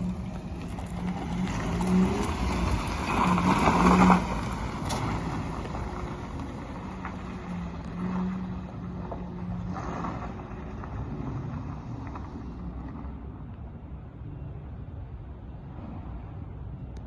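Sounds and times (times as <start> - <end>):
small truck engine running: 0.0 - 14.1
road noise: 0.0 - 17.0.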